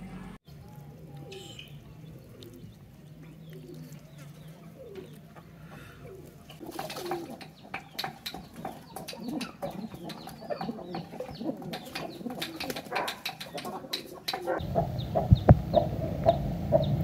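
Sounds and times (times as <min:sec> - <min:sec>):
pigeons splashing in water: 0:00.5 - 0:14.6
pigeons cooing: 0:00.6 - 0:17.0.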